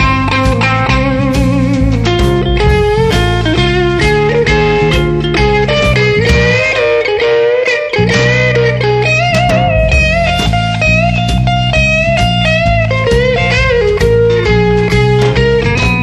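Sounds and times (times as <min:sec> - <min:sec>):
steady bass line: 0:00.0 - 0:07.3, 0:07.9 - 0:16.0
bending lead guitar notes: 0:00.0 - 0:16.0
rhythm guitar: 0:00.0 - 0:16.0.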